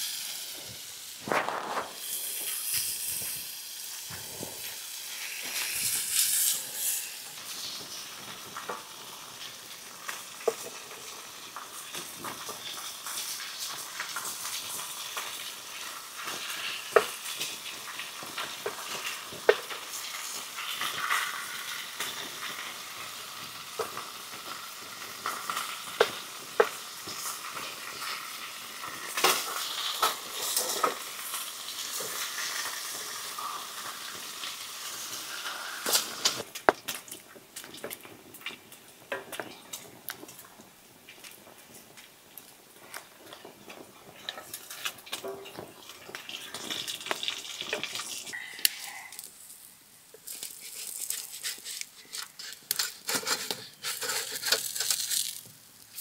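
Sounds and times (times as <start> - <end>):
bacon and pancakes sizzling: 0.0 - 56.0.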